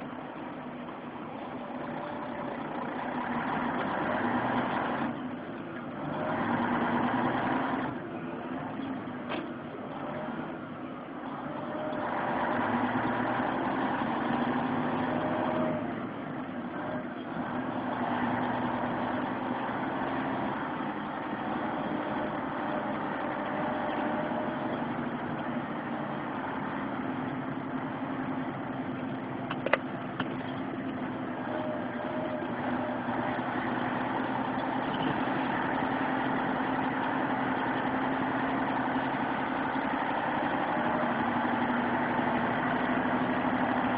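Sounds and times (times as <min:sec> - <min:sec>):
road noise: 0:00.0 - 0:43.9
vehicle engine running: 0:00.0 - 0:43.9.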